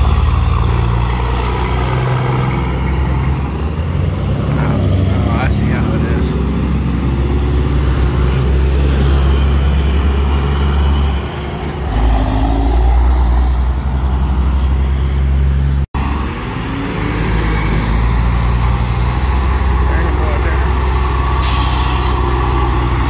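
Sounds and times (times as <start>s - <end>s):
car traffic: 0.0s - 23.0s
diesel truck engines rumbling: 0.0s - 23.0s.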